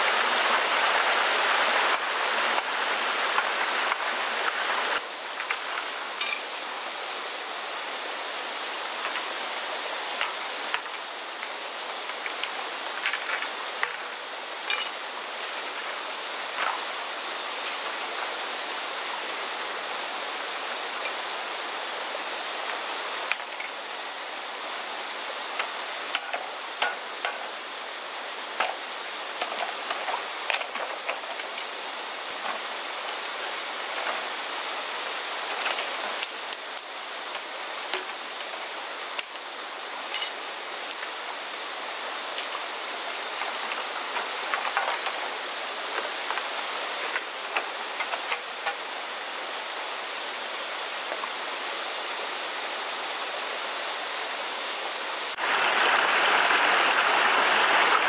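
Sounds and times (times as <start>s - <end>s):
stream water over rocks: 0.0s - 58.0s.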